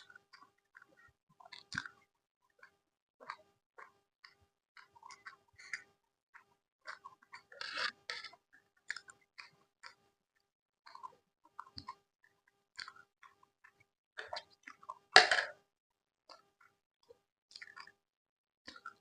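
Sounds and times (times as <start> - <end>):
close chewing and mouth sounds: 0.0 - 15.2, 16.3 - 19.0.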